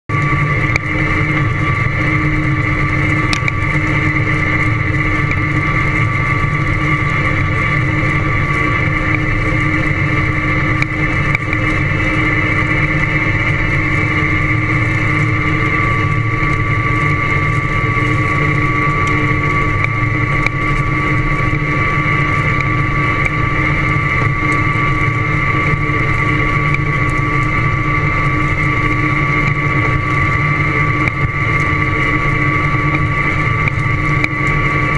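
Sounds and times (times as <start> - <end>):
high-pitched whine: 0.1 - 34.9.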